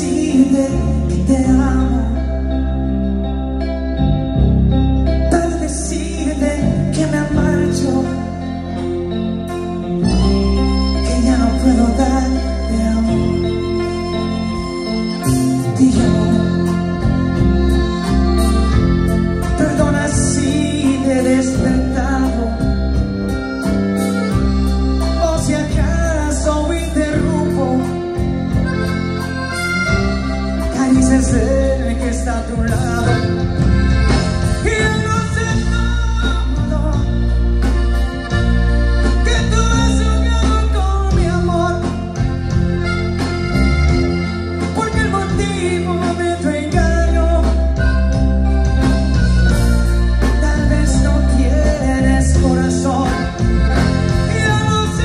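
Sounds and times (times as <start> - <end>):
lead singer: 0.0 - 55.0
live band playing: 0.0 - 55.0.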